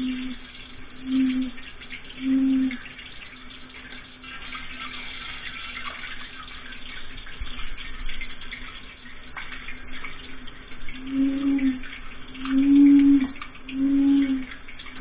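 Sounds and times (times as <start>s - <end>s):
faint steady hum: 0.0s - 15.0s
tap water splashing into sink: 0.0s - 15.0s.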